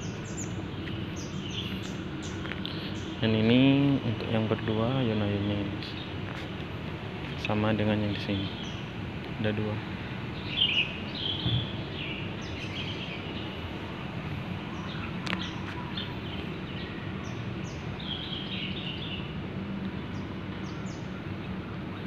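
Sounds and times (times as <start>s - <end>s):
low background noise: 0.0s - 22.0s
small birds chirping: 0.0s - 22.0s.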